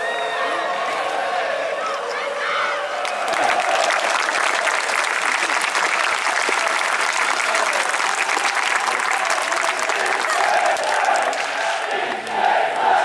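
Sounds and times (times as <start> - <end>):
stadium crowd clapping: 2.2 - 13.0.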